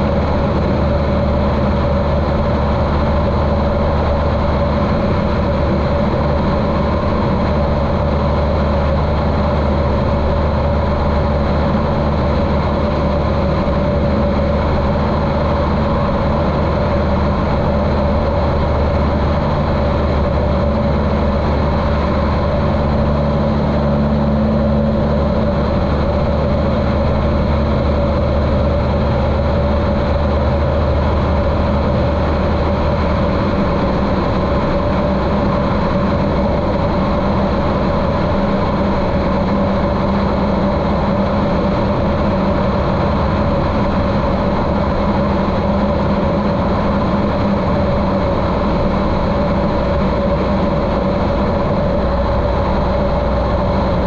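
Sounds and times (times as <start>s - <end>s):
muffled propeller plane engine drone: 0.0s - 54.0s.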